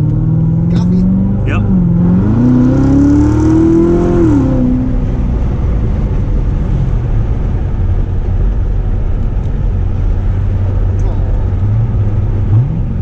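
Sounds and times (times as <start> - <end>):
car engine accelerating: 0.0 - 13.0
engine and road drone: 0.0 - 13.0.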